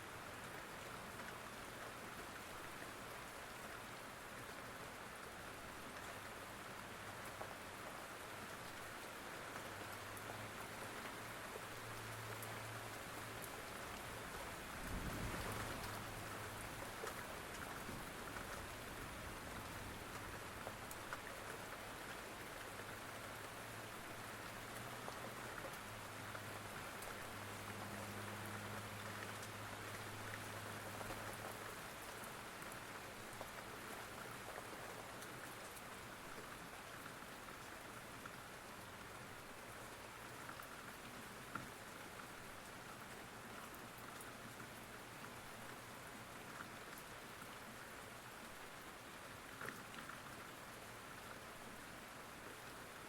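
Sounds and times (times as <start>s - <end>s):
steady rain falling: 0.0s - 53.0s
raindrop ticks: 5.9s - 51.8s.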